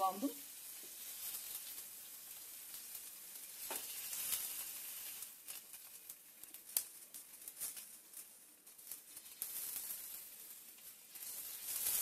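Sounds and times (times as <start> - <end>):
tomatoes sizzling on a grill: 0.0 - 12.0.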